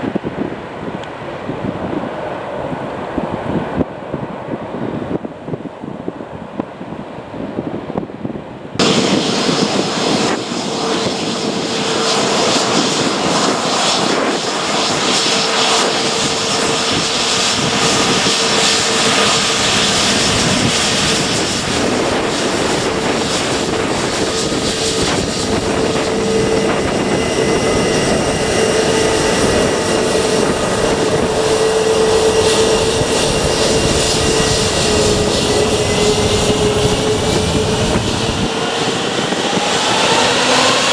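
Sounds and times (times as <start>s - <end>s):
jet engines at takeoff power: 0.0s - 40.9s.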